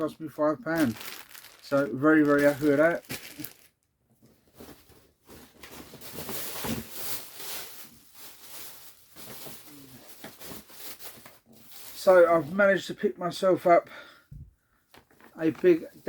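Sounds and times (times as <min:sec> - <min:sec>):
rustling of packaging: 0:00.6 - 0:12.6, 0:15.0 - 0:16.0.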